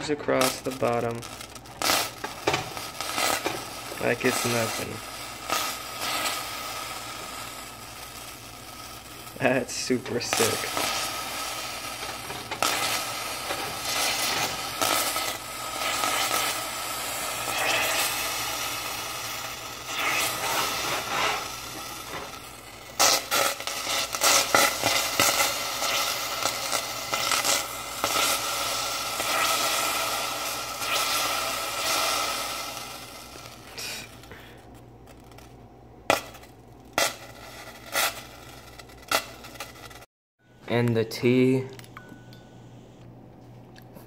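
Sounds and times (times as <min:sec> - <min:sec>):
hot pan hissing: 0:00.0 - 0:40.1.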